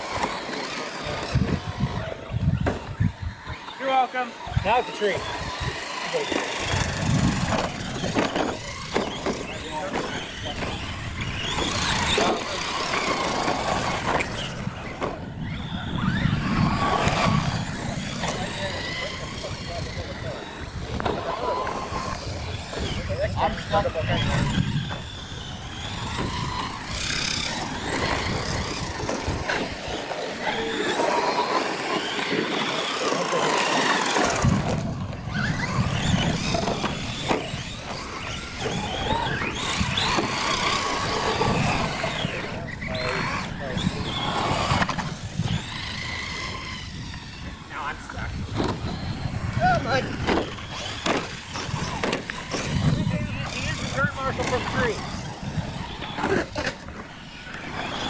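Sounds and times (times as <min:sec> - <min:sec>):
rc truck motors whining: 0:00.0 - 0:58.0.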